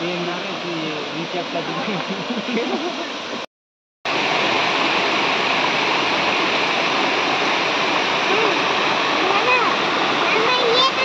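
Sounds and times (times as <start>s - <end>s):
water rushing over rocks: 0.0s - 3.5s, 4.1s - 11.0s.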